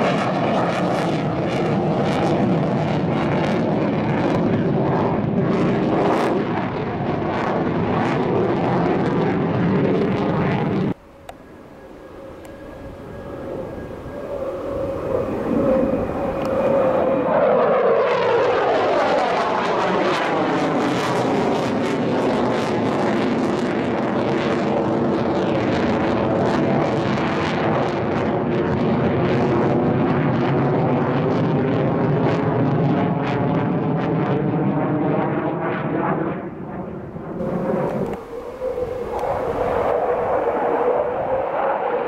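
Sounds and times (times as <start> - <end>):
fighter jet engine roar: 0.0 - 42.0.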